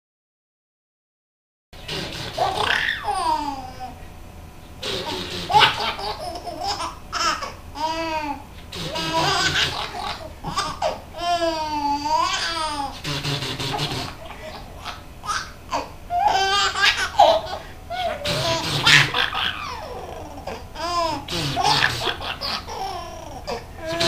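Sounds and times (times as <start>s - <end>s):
baby laughing: 1.9s - 4.0s, 4.8s - 24.0s.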